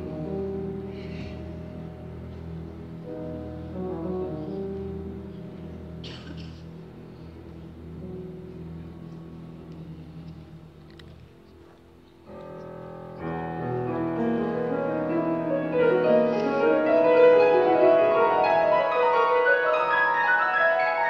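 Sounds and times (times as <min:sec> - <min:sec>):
symphony orchestra playing: 0:00.0 - 0:10.3, 0:12.9 - 0:21.0.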